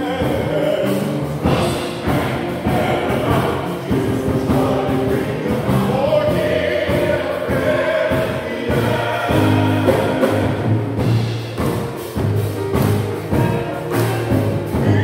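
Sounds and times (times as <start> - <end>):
church choir singing: 0.0 - 12.1.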